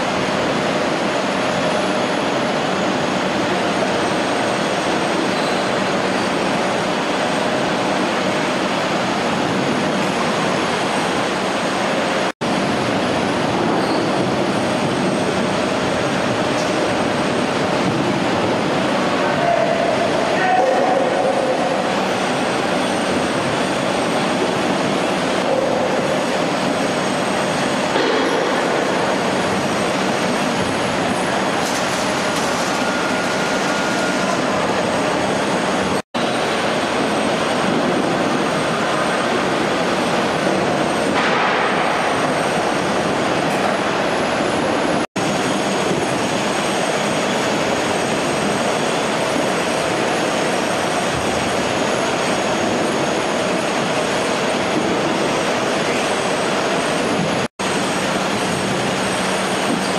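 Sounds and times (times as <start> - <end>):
conveyors rattling and rumbling: 0.0 - 59.9.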